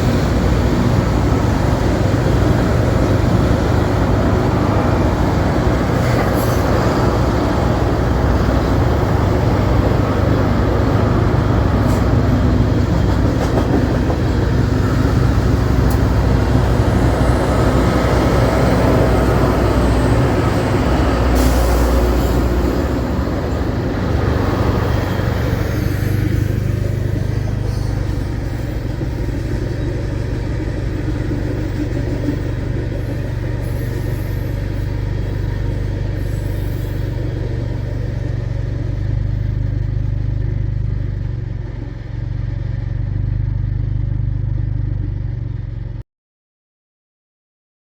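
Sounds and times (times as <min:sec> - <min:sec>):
freight train wheels rumbling on rail: 0:00.0 - 0:45.5.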